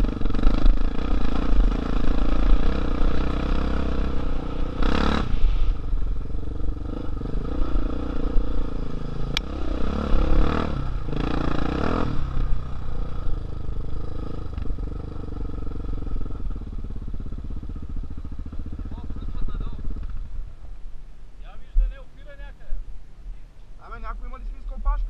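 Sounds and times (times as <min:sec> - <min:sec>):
off-road motorcycle engine revving: 0:00.0 - 0:20.5.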